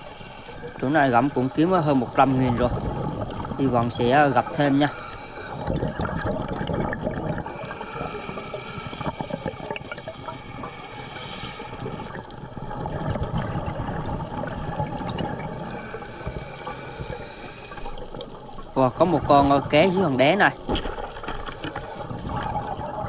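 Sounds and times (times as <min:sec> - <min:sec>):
gurgling bubbles: 0:00.0 - 0:23.0
muffled underwater noise: 0:00.0 - 0:23.0.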